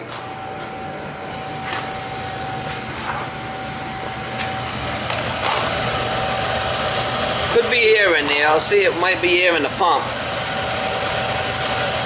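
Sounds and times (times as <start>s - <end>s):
oil burner rushing: 0.4s - 12.0s.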